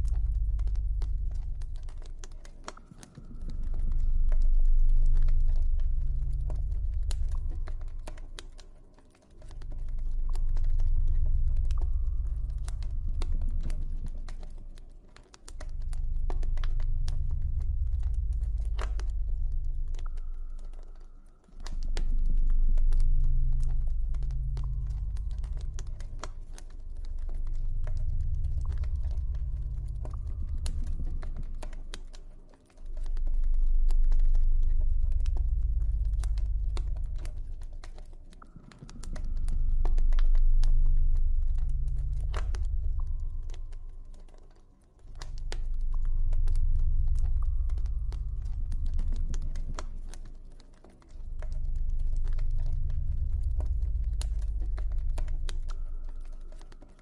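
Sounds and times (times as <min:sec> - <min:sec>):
deep low ambient drone: 0:00.0 - 0:57.0.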